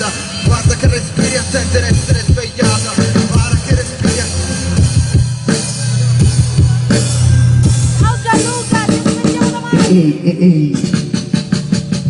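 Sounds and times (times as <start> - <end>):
drum kit: 0.0 - 12.0
live band playing hip-hop: 0.0 - 12.0
steady bass line: 0.0 - 12.0.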